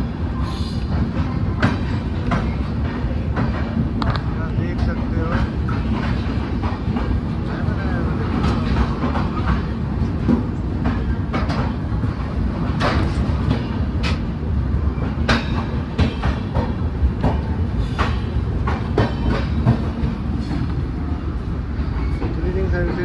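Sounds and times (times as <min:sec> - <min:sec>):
train low rumble: 0:00.0 - 0:23.0
wheels clacking over rail joints: 0:01.0 - 0:20.9.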